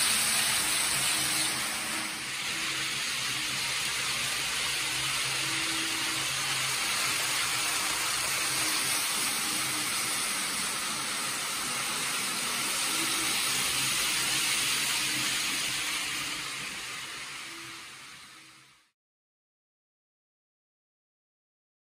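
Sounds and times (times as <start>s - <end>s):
model train wheels on rails: 0.0s - 18.9s.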